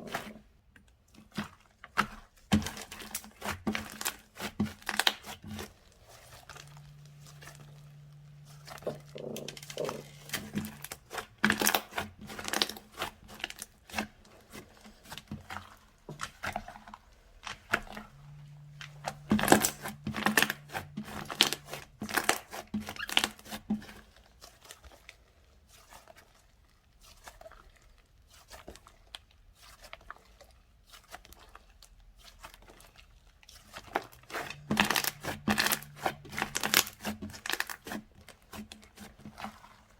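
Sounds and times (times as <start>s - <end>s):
slime crackling and popping: 1.3s - 30.2s, 30.8s - 39.9s.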